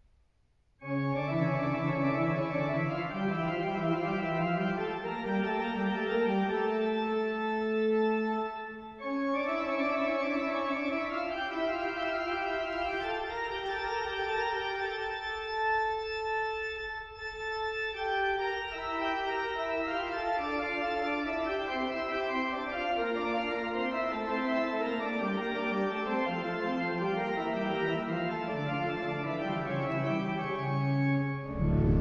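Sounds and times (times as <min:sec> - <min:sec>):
pipe organ playing chords: 0:00.8 - 0:32.0.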